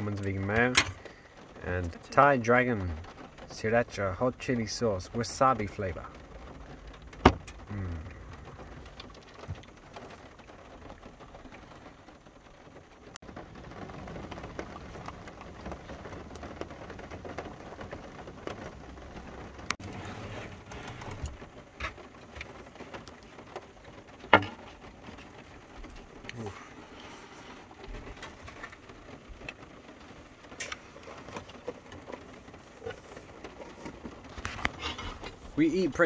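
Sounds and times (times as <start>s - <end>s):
rain pattering on a roof: 0.0s - 36.0s.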